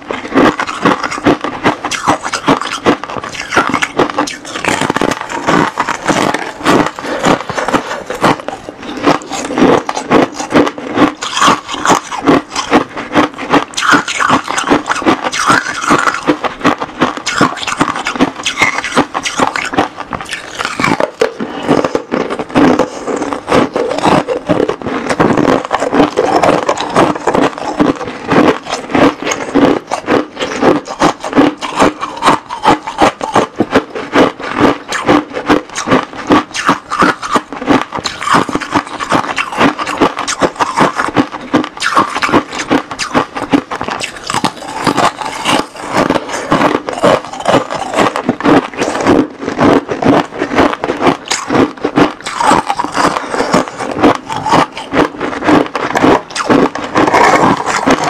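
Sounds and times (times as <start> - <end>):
frost crunching and crackling: 0.0 - 58.0.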